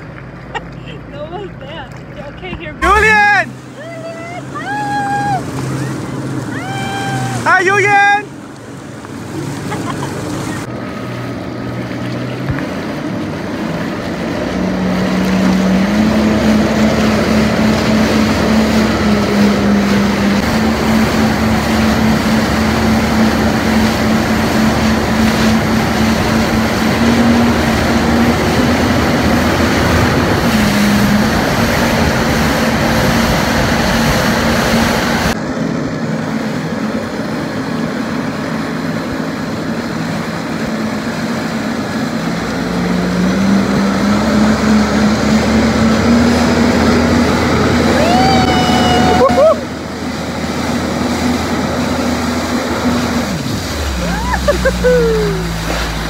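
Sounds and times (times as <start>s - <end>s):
jet ski engine running: 0.0s - 56.0s
water noise: 0.0s - 56.0s
wind: 0.0s - 56.0s.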